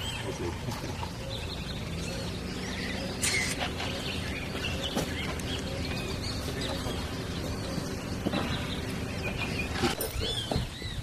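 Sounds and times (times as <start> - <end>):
birds chirping: 0.0 - 11.0
outdoor background noise: 0.0 - 11.0.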